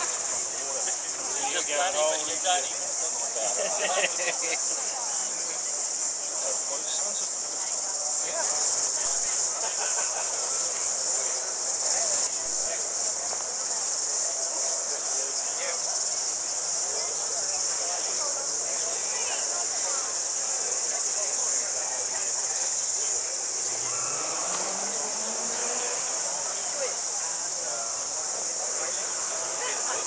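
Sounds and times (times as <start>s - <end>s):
faint crowd chatter: 0.0s - 30.0s
insects chorus: 0.0s - 30.0s.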